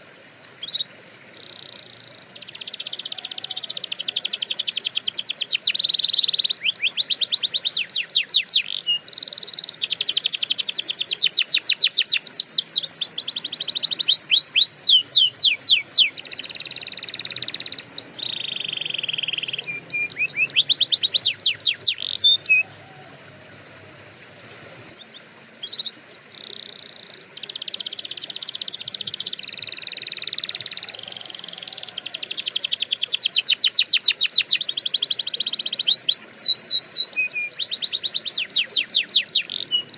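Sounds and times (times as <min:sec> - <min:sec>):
canary singing trills: 0:00.0 - 0:23.6, 0:25.0 - 0:39.9.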